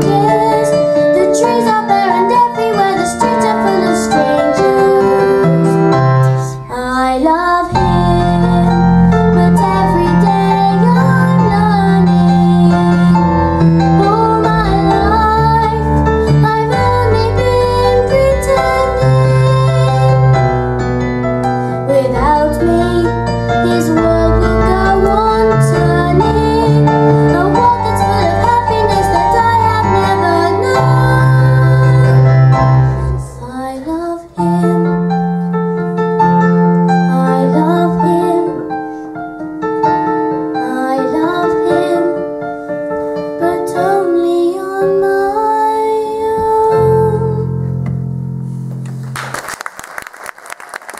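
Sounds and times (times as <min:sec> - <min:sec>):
girl singing: 0:00.0 - 0:20.4, 0:21.9 - 0:32.2, 0:33.0 - 0:35.5, 0:37.0 - 0:38.8, 0:40.6 - 0:42.4, 0:43.4 - 0:47.6
piano accompaniment: 0:00.0 - 0:50.9.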